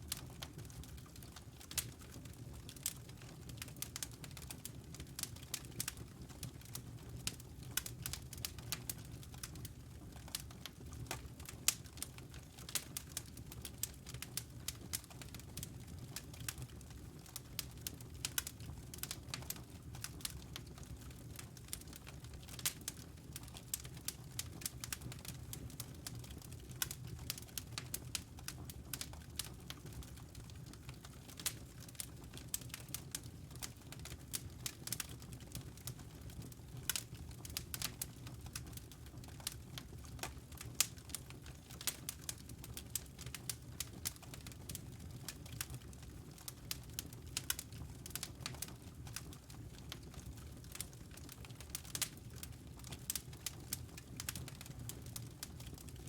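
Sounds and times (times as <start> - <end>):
logs crackling in fireplace: 0.0 - 56.0
low rumble of fire: 0.0 - 56.0.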